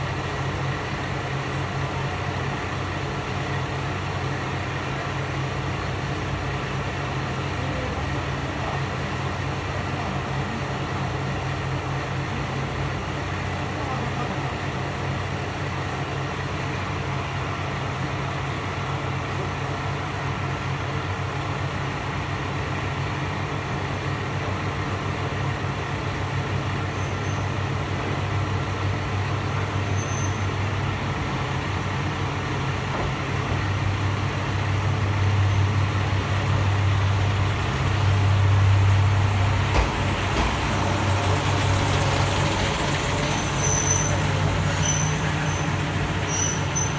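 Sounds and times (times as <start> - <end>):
diesel train engine drone: 0.0 - 46.9.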